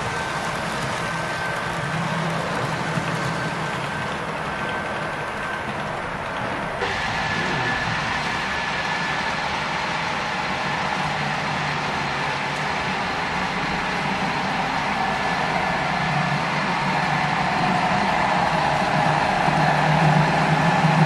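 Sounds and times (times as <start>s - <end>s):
faint whining tones: 0.0s - 21.0s.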